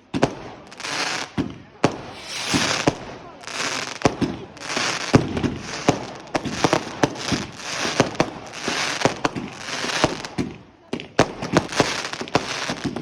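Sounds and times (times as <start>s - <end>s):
fireworks hissing crackle: 0.0s - 10.5s, 11.2s - 13.0s
fireworks bangs: 0.0s - 13.0s.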